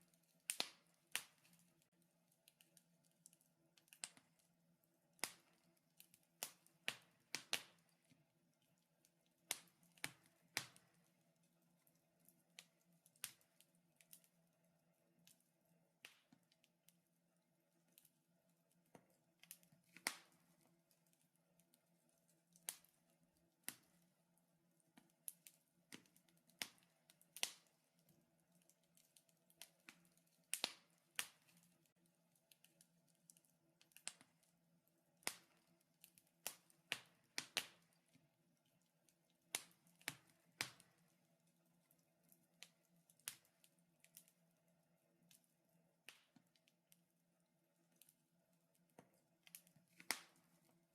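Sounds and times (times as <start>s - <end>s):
wood fire crackling: 0.0s - 17.0s, 17.7s - 47.0s, 47.8s - 50.9s
sharp pops and snaps: 0.1s - 14.4s, 15.2s - 17.0s, 18.7s - 21.8s, 22.5s - 24.1s, 24.9s - 34.6s, 35.2s - 41.2s, 41.8s - 44.4s, 45.3s - 47.0s, 48.8s - 50.9s.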